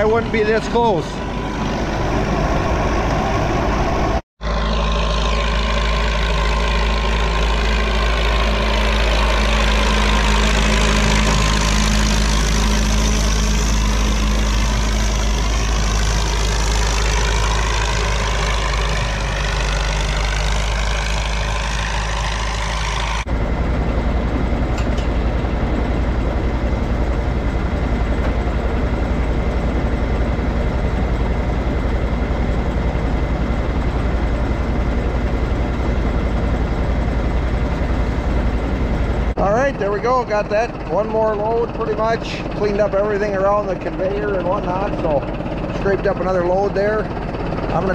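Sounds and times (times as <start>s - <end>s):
engine with even pulse: 0.0s - 47.9s
tractor engine running: 0.0s - 47.9s.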